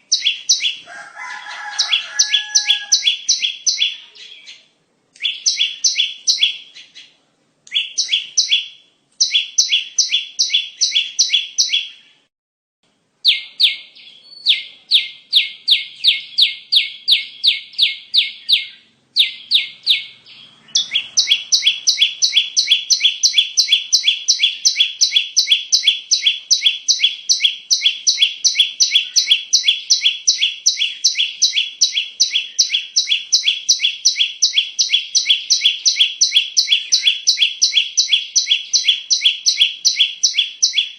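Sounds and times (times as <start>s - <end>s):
bird chirping rapidly: 0.0s - 12.3s, 13.2s - 40.9s.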